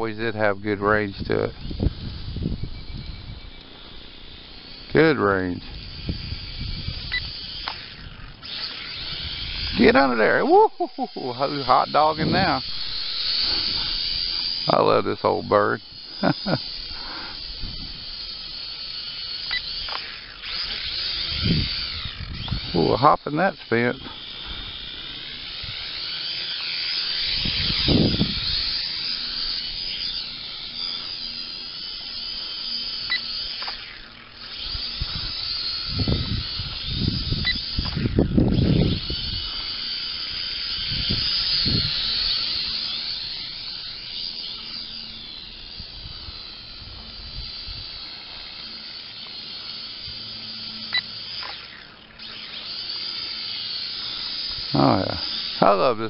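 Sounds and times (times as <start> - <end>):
toy drone motors whining: 0.0 - 56.0.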